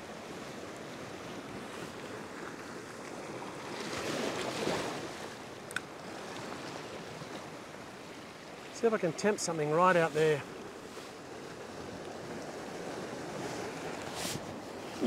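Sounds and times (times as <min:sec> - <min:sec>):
ocean swell washing over rocks: 0:00.1 - 0:15.0.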